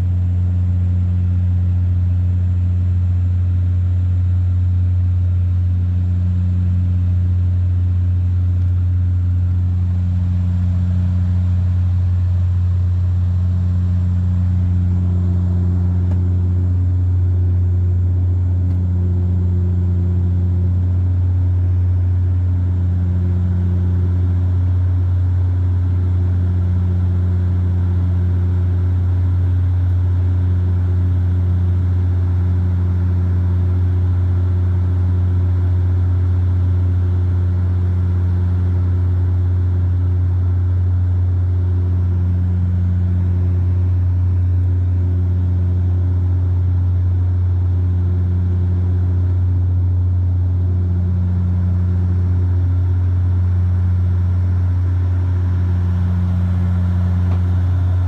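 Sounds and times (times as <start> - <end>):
propeller and engine hum: 0.0 - 58.0.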